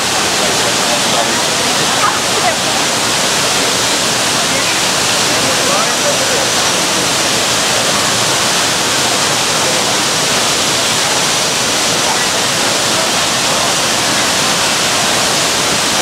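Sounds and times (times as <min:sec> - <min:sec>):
faint voices: 0:00.0 - 0:16.0
waterfall rushing: 0:00.0 - 0:16.0.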